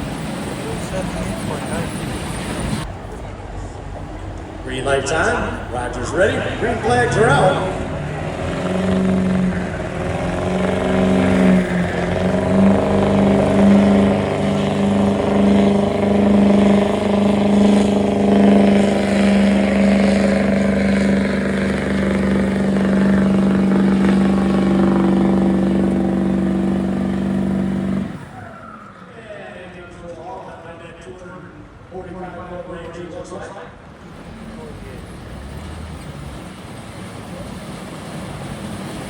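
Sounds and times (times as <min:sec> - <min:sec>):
diesel truck engine at full throttle: 0:00.0 - 0:29.2, 0:33.8 - 0:39.0.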